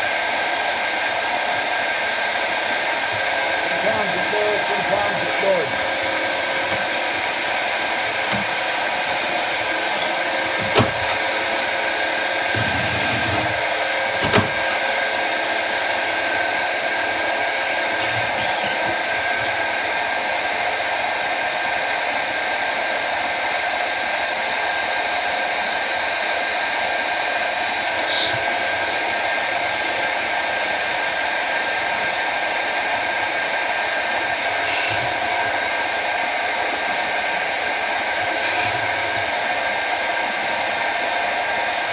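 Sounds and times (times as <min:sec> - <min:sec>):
lathe motor whirring: 0:01.0 - 0:21.1, 0:26.9 - 0:41.9.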